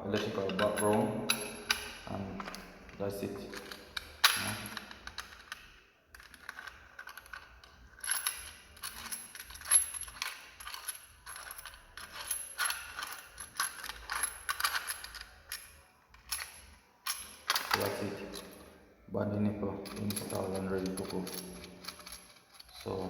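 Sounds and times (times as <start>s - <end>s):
small metal parts clicking and rattling: 0.2s - 18.7s, 19.8s - 23.0s.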